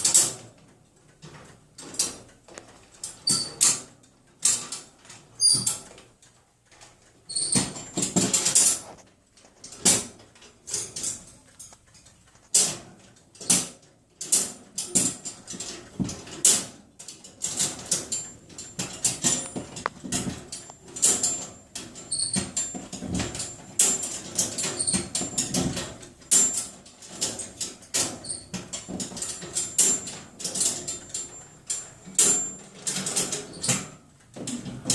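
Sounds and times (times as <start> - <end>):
metal cage doors clanking: 0.0 - 0.5, 2.9 - 6.0, 6.8 - 8.8, 9.6 - 11.7, 12.5 - 34.9.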